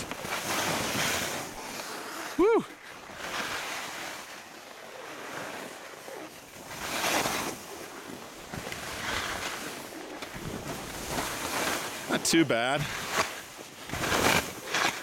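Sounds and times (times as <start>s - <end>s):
skis scraping over snow: 0.0s - 15.0s.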